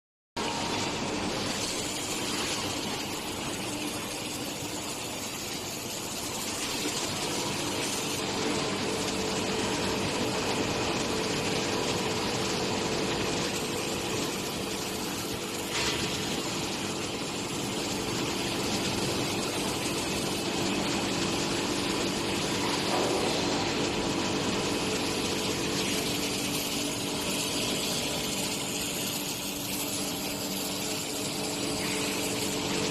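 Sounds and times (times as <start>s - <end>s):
welding machine humming: 0.4s - 32.9s.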